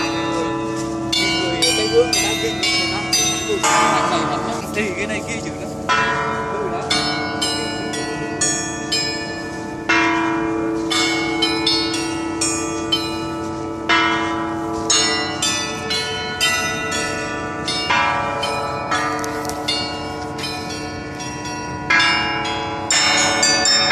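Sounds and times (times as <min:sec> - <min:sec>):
bronze bells playing a melody: 0:00.0 - 0:23.9.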